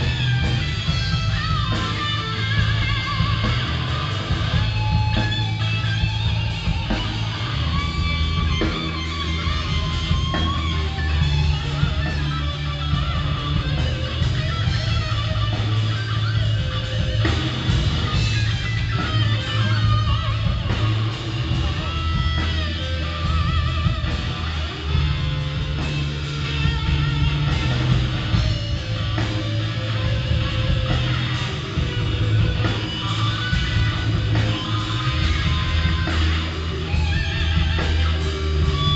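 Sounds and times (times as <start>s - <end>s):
blues band playing: 0.0s - 38.9s
electric guitar bent notes: 0.0s - 38.9s.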